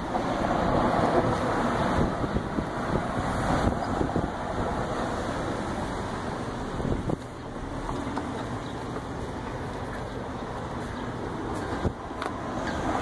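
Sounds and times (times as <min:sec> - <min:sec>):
wind buffeting microphone: 0:00.0 - 0:08.9, 0:10.4 - 0:13.0
road traffic rumble: 0:00.0 - 0:13.0.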